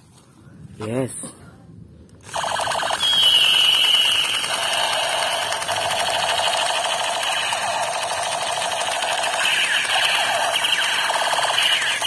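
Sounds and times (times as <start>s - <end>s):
electronic toy gun pulsing buzz: 2.2s - 12.0s.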